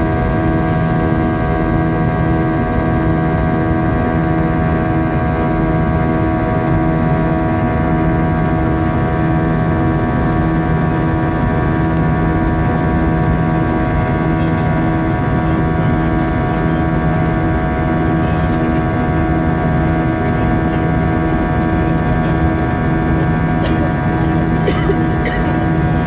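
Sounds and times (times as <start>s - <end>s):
jet engine cabin drone: 0.0s - 26.0s
pulsing hum tones: 0.0s - 26.0s.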